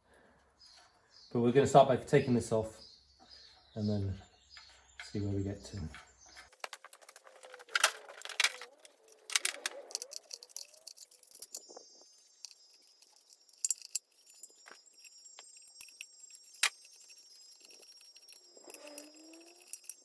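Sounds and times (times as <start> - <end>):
metal tools clinking: 3.4 - 20.0.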